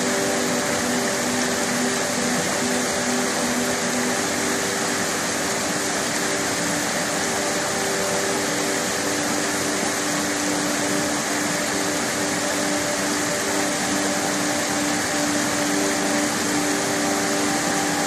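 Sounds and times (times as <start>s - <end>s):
waterfall rushing over rocks: 0.0s - 18.0s.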